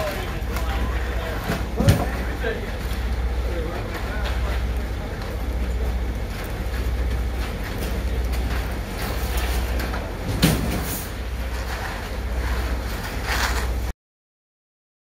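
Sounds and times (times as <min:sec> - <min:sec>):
diesel engine rumbling: 0:00.0 - 0:13.9
wet concrete raked and scraped: 0:00.0 - 0:13.9.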